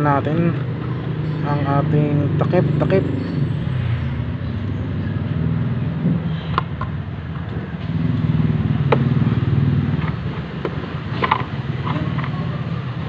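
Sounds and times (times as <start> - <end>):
low motor rumble: 0.0 - 13.0.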